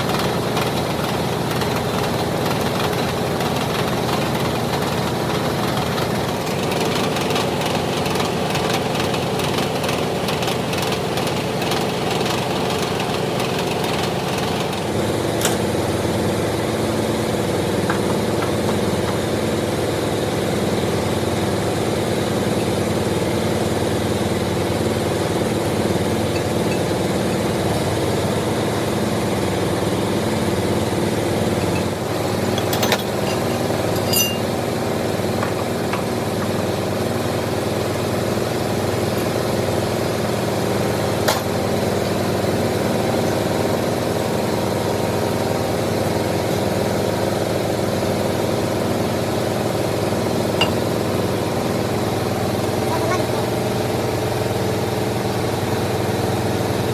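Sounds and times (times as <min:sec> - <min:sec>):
lathe running with low hum: 0:00.0 - 0:56.9.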